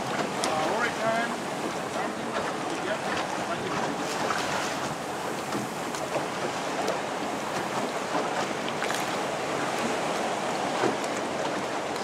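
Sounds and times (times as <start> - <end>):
seawater splashing around boat: 0.0 - 12.0.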